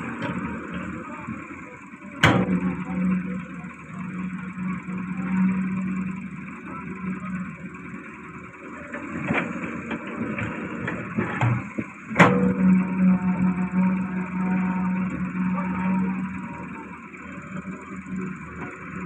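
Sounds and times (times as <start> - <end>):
excavator diesel engine: 0.0 - 19.0
knocks and clanks: 2.2 - 8.0, 8.9 - 19.0.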